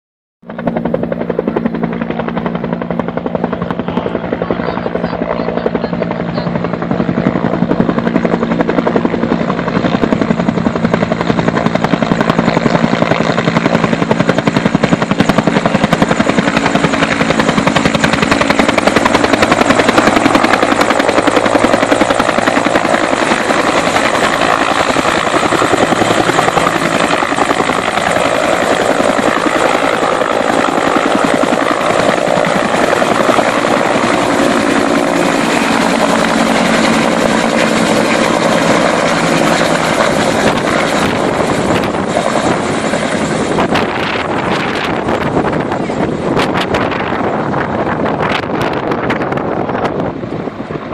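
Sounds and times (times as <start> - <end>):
helicopter rotor blades chopping: 0.4 - 50.9.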